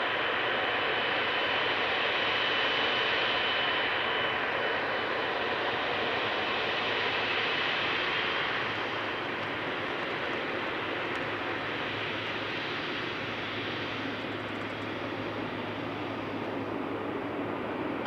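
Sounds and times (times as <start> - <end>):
high engine whine: 0.0 - 18.0
jet engine rush: 0.1 - 18.0.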